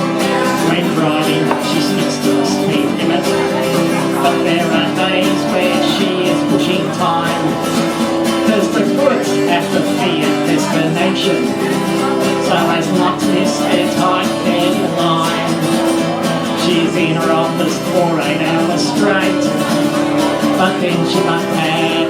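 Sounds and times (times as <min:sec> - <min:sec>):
live country guitar music: 0:00.0 - 0:22.0.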